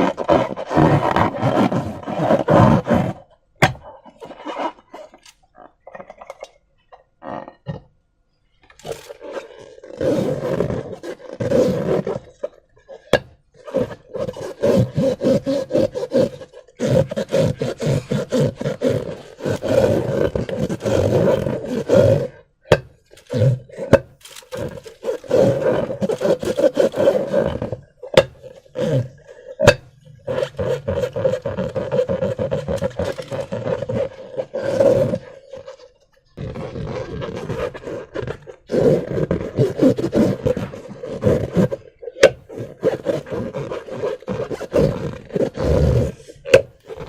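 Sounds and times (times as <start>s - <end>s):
rubber balloons rubbing and squeaking: 0.0s - 8.0s, 8.6s - 47.0s.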